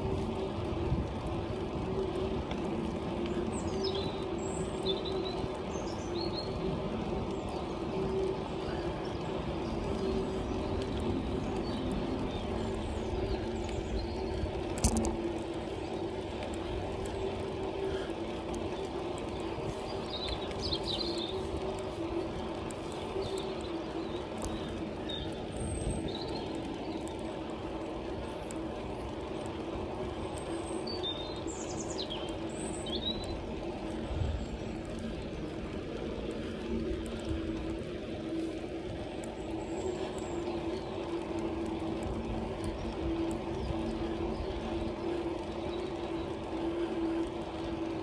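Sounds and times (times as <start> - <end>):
bicycle tyre hum on tarmac: 0.0 - 48.0
birds chirping: 0.0 - 48.0.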